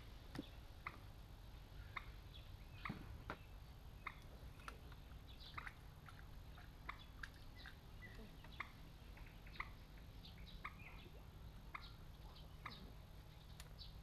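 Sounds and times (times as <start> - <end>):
faint bird chirps: 1.8 - 14.0.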